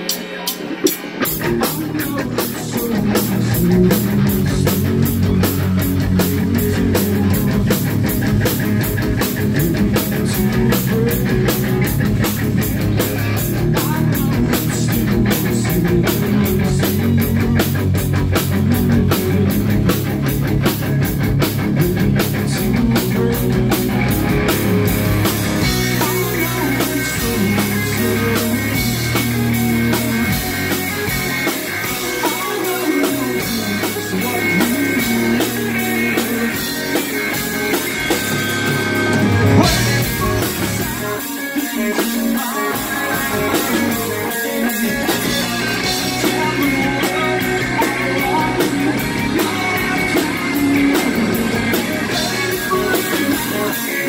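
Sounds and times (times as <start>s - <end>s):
bass guitar: 0.0s - 54.0s
distorted electric guitar: 0.0s - 54.0s
drum kit beat: 0.0s - 54.0s.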